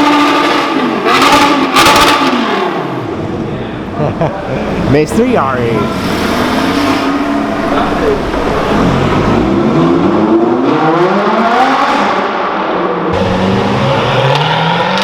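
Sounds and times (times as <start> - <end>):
car engine revving and accelerating: 0.0 - 3.2, 3.8 - 15.0.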